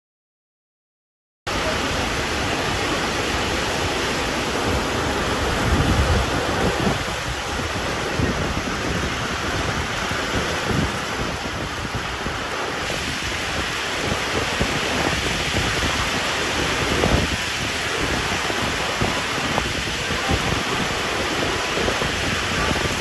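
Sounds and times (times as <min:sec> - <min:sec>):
heavy rain pouring: 0:01.5 - 0:23.0
wind buffeting microphone: 0:01.6 - 0:23.0.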